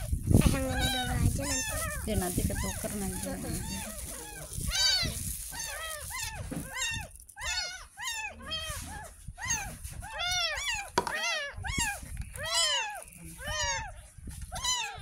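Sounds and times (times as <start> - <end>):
kittens mewing: 0.0 - 15.0.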